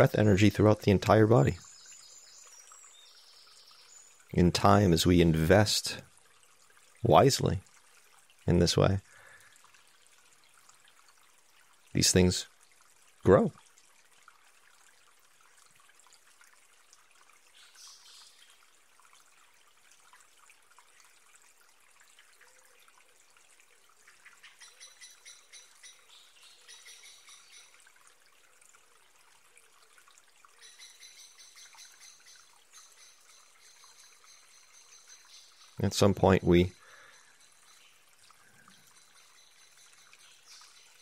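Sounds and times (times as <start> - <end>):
faint trickle-like hiss: 0.0 - 41.0.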